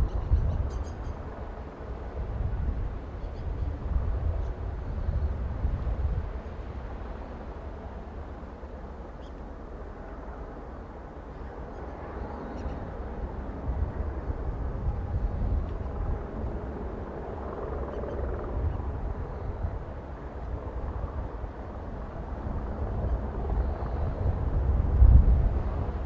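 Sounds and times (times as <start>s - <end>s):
helicopter hovering: 0.0s - 26.0s
wind rumble on microphone: 0.0s - 26.0s.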